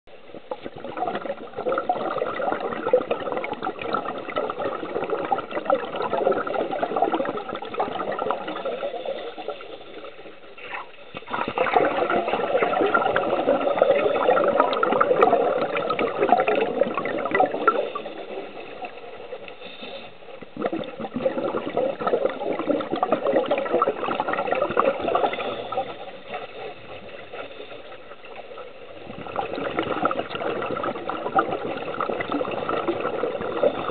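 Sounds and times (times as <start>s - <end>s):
underwater exhaust bubbles: 0.1s - 33.9s.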